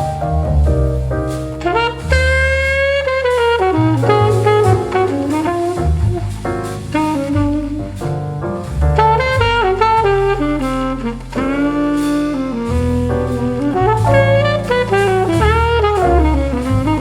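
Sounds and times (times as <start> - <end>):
drums: 0.0 - 17.0
walking bass: 0.0 - 17.0
saxophone melody: 1.6 - 8.1, 9.0 - 17.0.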